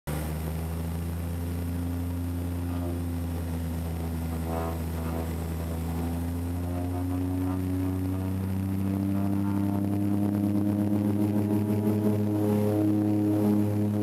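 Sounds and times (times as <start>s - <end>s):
turboprop engine drone: 0.1s - 14.0s.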